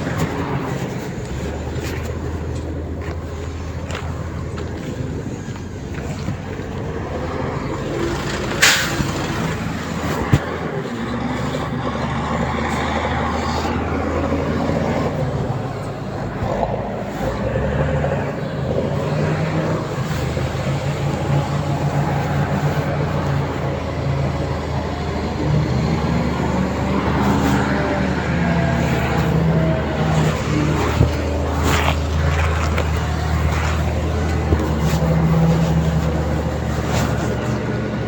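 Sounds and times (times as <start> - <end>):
heavy machine engine running: 0.0 - 38.0.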